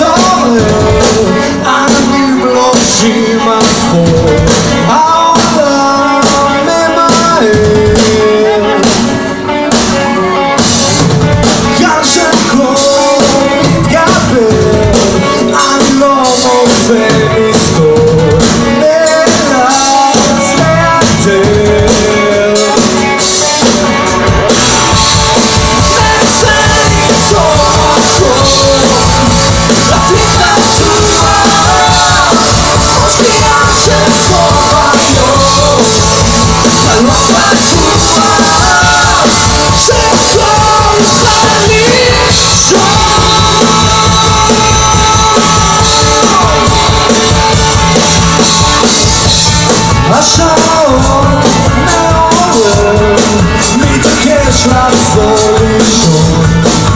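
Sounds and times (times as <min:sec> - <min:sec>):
person singing: 0:00.0 - 0:10.4, 0:11.5 - 0:24.3, 0:25.0 - 0:56.9
drums: 0:00.0 - 0:56.9
guitars: 0:00.0 - 0:56.9.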